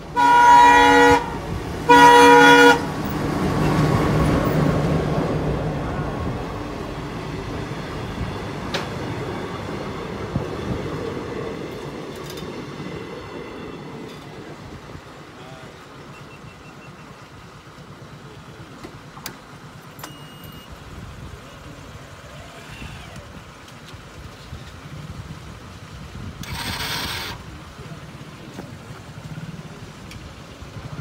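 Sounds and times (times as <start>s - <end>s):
train wheels rumbling on track: 0.0s - 21.5s, 22.2s - 31.0s.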